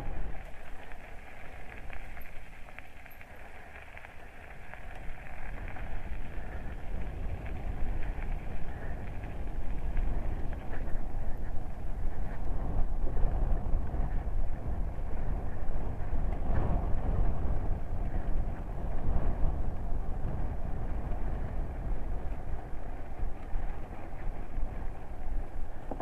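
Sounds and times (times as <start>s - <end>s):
bike tyre rumble on road: 0.0s - 26.0s
wind buffeting microphone: 0.0s - 26.0s.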